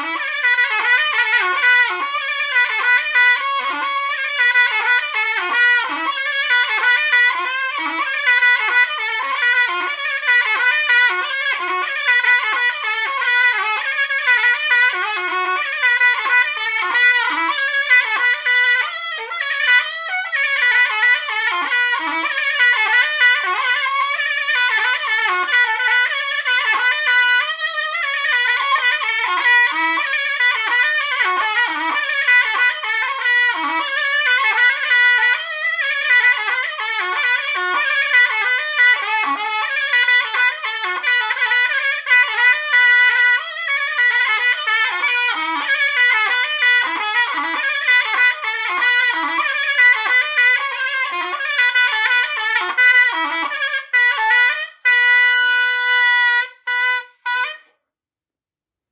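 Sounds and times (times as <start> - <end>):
shawm playing folk melody: 0.0 - 57.8.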